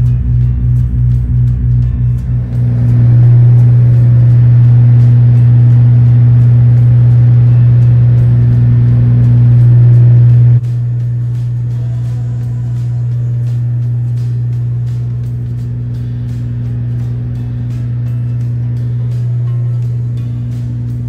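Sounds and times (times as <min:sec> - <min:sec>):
tugboat engines droning: 0:00.0 - 0:21.0.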